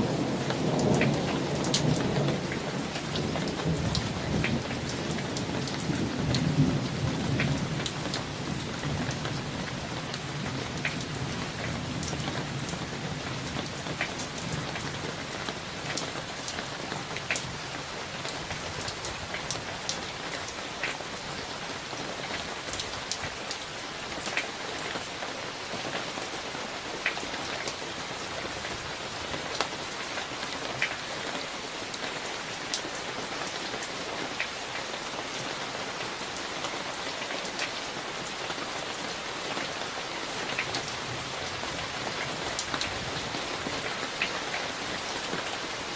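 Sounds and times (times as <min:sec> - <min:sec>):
raindrops ticking close by: 0:00.0 - 0:45.9
steady rain: 0:00.0 - 0:45.9.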